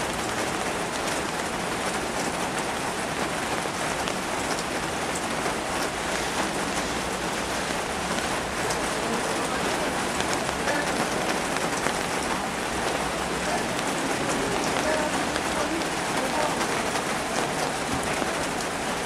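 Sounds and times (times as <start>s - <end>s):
rain on flooded street: 0.0s - 19.0s
raindrops ticking: 0.0s - 19.0s.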